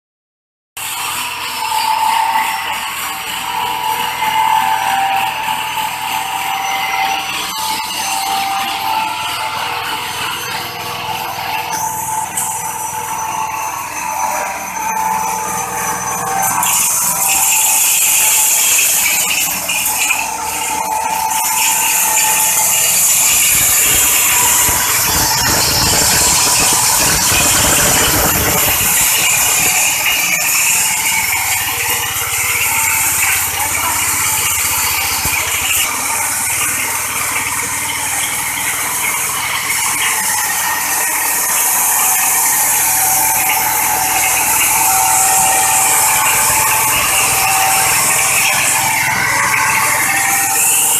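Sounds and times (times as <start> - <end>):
mill grinding corn: 0.8 - 50.9.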